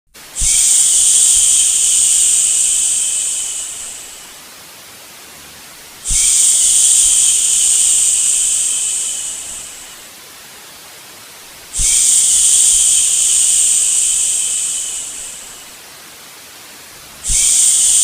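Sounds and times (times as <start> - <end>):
faint steady hiss: 0.1 - 18.0.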